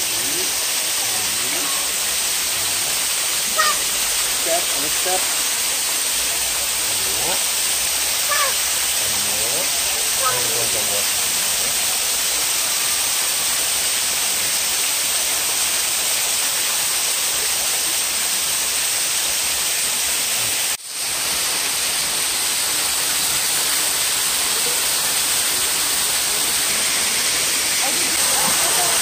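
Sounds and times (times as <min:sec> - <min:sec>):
creek water rushing over rocks: 0:00.0 - 0:29.0.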